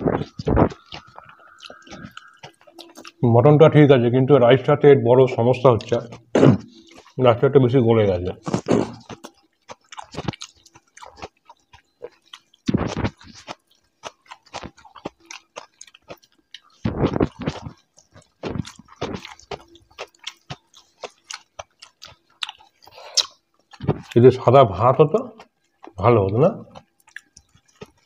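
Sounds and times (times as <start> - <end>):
people chewing and smacking: 0.0 - 3.3, 5.6 - 24.5, 25.1 - 28.0.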